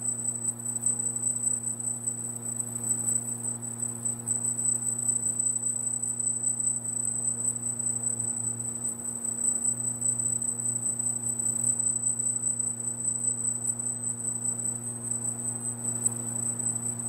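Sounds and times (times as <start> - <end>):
laser machine high-pitched whine: 0.0 - 17.0.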